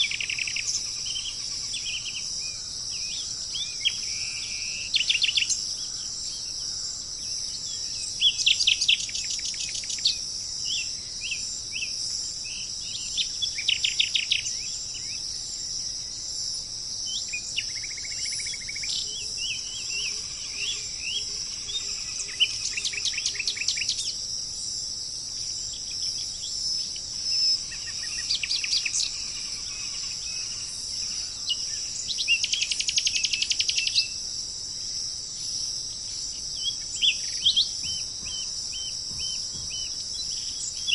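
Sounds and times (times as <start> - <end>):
birds singing repeated notes: 0.0 - 40.9
high insect chorus: 0.0 - 40.9.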